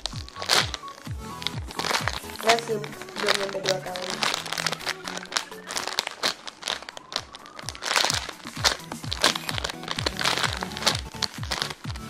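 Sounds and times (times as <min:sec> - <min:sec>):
music with thumping beat: 0:00.0 - 0:12.0
plastic bag crinkling: 0:00.0 - 0:12.0.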